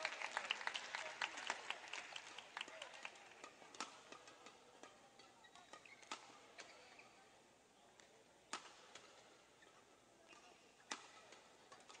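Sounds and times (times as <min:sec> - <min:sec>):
indoor hall ambience: 0:00.0 - 0:12.0.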